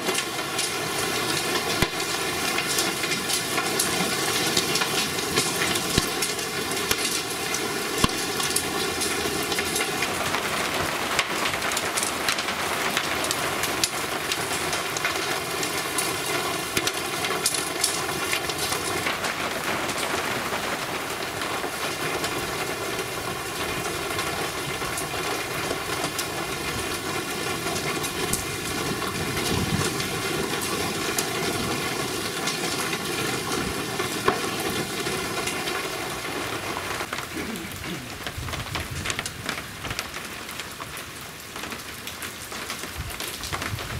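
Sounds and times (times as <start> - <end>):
heavy rain hiss: 0.0 - 43.9
raindrops ticking on surfaces: 0.0 - 43.9.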